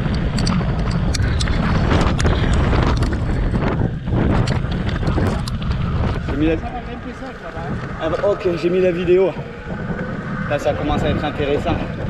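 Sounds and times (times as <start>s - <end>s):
gravel clicking under tyres: 0.0s - 12.0s
wind buffeting microphone: 0.0s - 12.0s.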